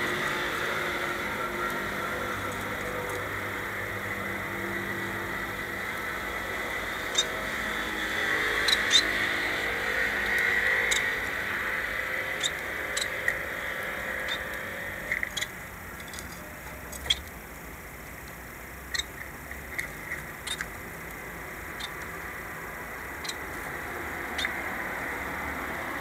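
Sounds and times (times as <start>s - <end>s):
small birds chirping: 0.0s - 17.4s, 18.8s - 25.8s.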